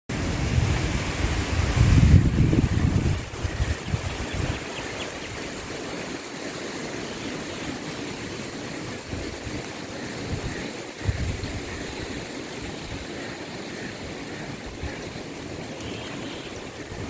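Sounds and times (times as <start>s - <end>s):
wind buffeting microphone: 0.1s - 6.2s, 8.7s - 17.0s
water rushing and splashing: 0.1s - 17.0s.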